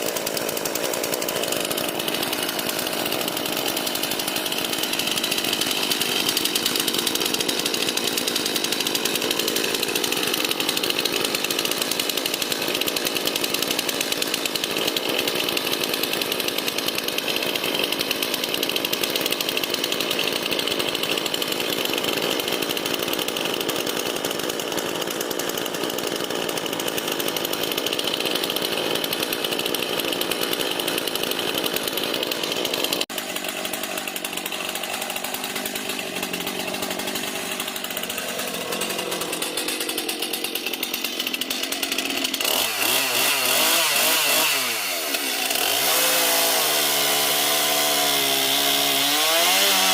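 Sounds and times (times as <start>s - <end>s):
chainsaw running: 0.0s - 49.9s.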